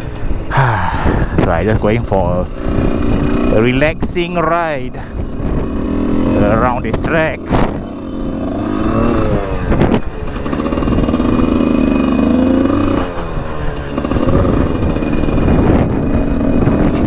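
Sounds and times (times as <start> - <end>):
dirt bike engine revving: 0.0 - 17.0
wind buffeting on microphone: 0.0 - 17.0.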